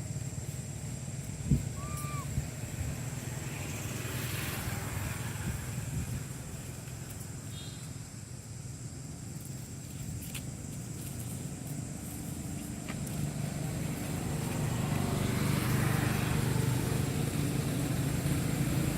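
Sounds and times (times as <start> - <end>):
vehicle engine humming: 0.0 - 18.9.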